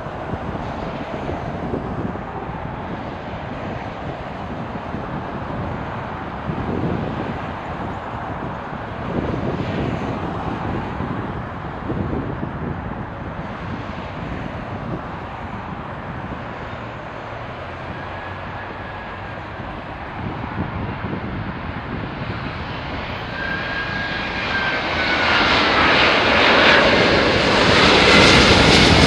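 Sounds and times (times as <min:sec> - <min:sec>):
airplane rumble overhead: 0:00.0 - 0:29.0
road traffic: 0:00.0 - 0:29.0
wind on microphone: 0:00.0 - 0:29.0.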